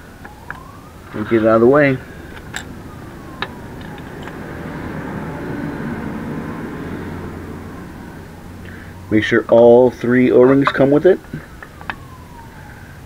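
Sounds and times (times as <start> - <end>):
passing vehicle engine hum: 0.6 - 10.6, 11.2 - 12.5.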